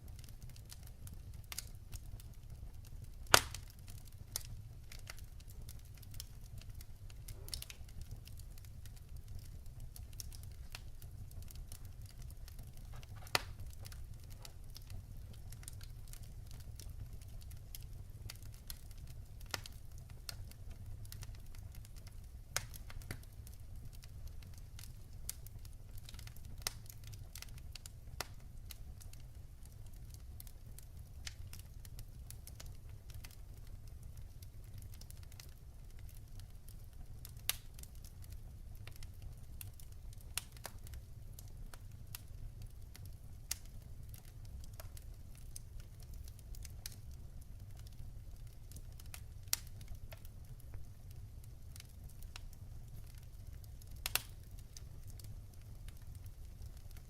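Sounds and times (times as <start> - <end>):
flames rumbling: 0.0 - 57.0
logs crackling and popping: 0.0 - 57.0.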